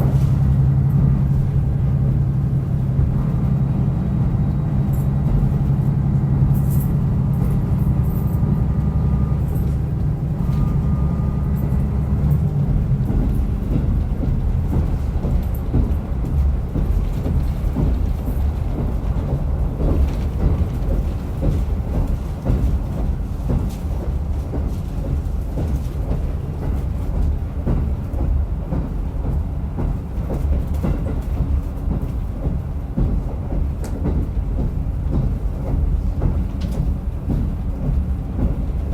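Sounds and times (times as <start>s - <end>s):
diesel train engine drone: 0.0s - 38.9s
track knocks: 0.0s - 38.9s
train wheels rumbling: 0.0s - 38.9s.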